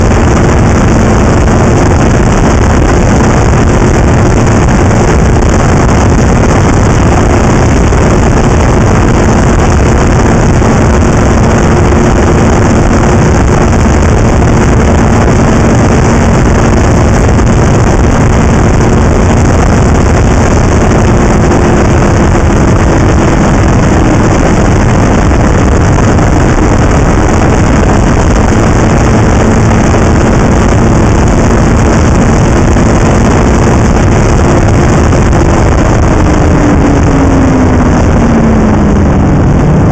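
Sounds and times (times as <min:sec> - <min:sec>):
heavy rushing noise: 0:00.0 - 0:39.9
snowmobile engine drone: 0:00.0 - 0:39.9.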